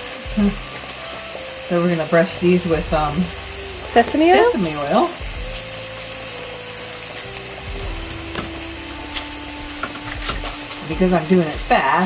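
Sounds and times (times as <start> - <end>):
filling sizzling in a frying pan: 0.0 - 12.0.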